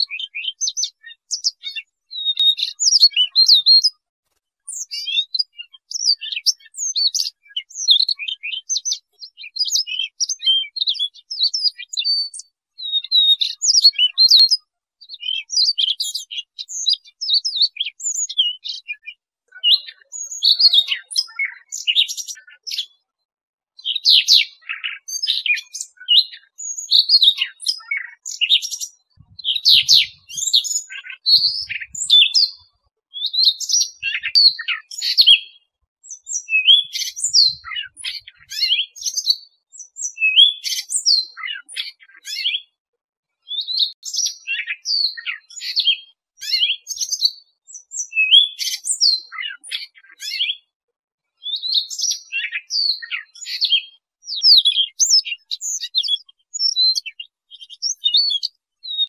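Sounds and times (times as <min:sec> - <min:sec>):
bird singing high warbling song: 0:00.0 - 0:04.0, 0:04.6 - 0:23.2, 0:23.8 - 0:42.8, 0:43.4 - 0:50.7, 0:51.4 - 0:59.0.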